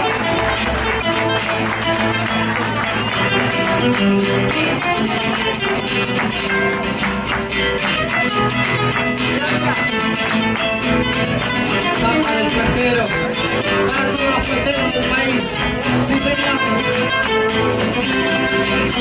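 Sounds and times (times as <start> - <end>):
strummed guitars folk music: 0.0 - 19.0.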